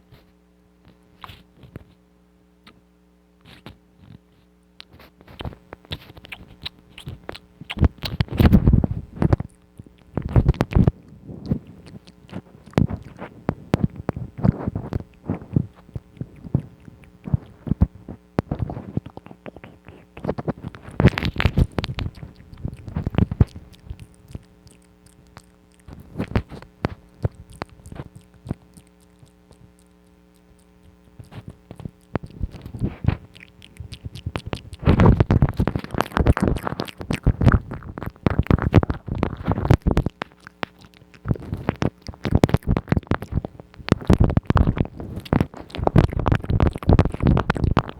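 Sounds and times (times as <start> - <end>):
faint steady hum: 0.0 - 47.9
wet mouth clicks and smacks: 4.8 - 47.9.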